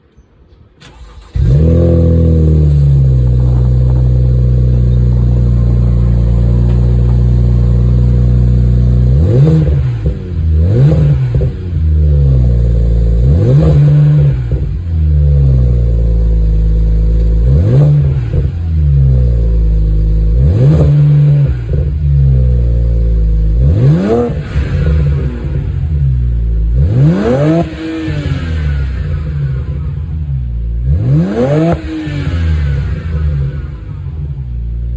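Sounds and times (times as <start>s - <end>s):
car engine starting and idling: 0.7s - 34.9s
engine revving: 0.8s - 34.9s.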